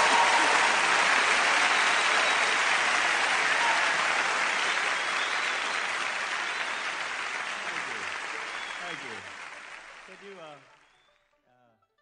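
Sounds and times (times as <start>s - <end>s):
audience applause: 0.0s - 11.1s.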